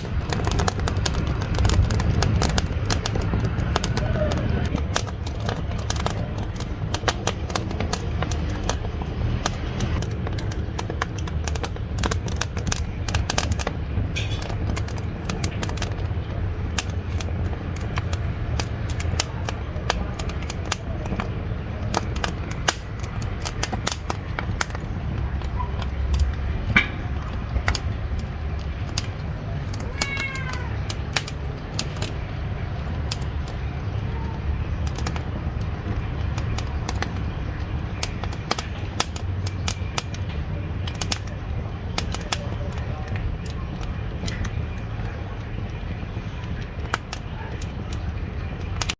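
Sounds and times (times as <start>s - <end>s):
low rumble of firebox: 0.0s - 48.9s
wood fire crackling and popping: 0.0s - 48.9s.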